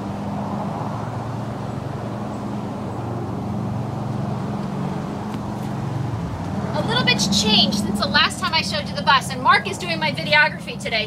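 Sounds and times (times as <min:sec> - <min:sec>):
bus engine idling: 0:01.6 - 0:11.0.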